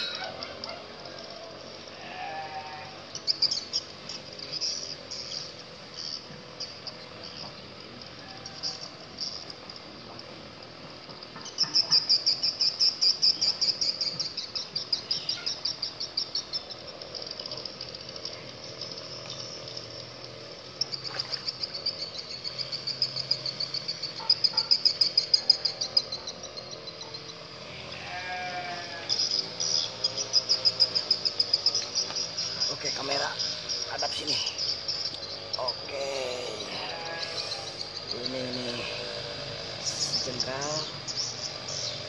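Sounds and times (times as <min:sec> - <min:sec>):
insects pulsing buzz: 0:00.0 - 0:42.0
low wavering insect call: 0:00.0 - 0:42.0.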